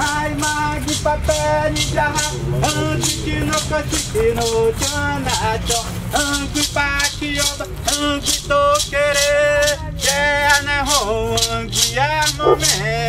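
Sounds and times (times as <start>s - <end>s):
man chanting: 0.0s - 13.0s
maraca shaking: 0.0s - 13.0s.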